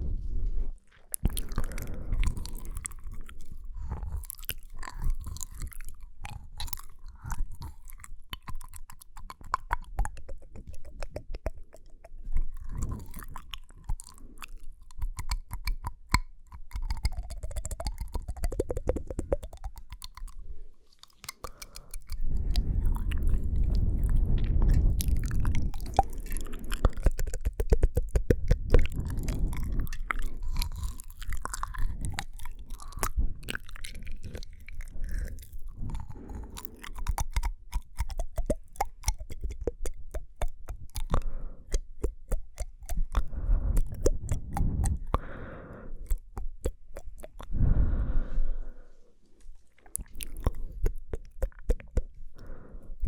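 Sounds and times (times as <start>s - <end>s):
mouth clicks and smacks: 0.3s - 53.0s.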